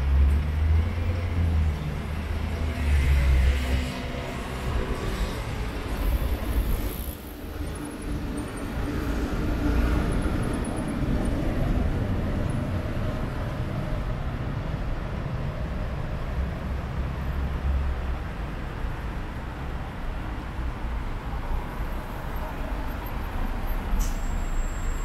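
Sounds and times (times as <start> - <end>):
train running over viaduct: 0.0 - 25.0.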